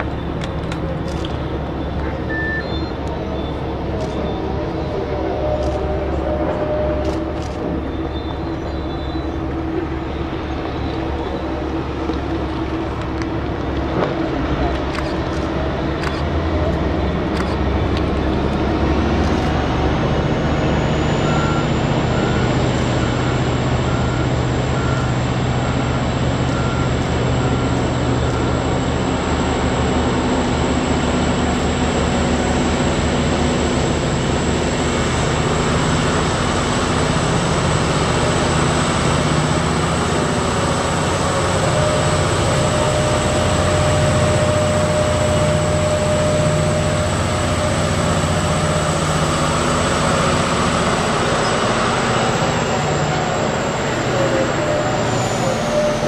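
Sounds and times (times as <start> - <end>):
dump truck engine drone: 0.0 - 56.0
high whine: 0.0 - 56.0.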